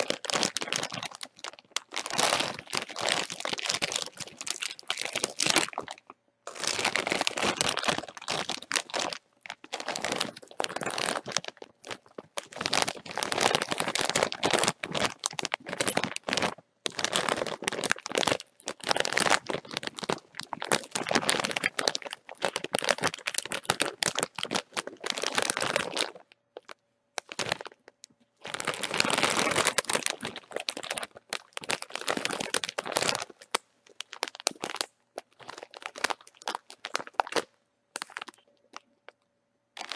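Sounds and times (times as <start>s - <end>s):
chip bag crinkling: 0.0s - 38.8s.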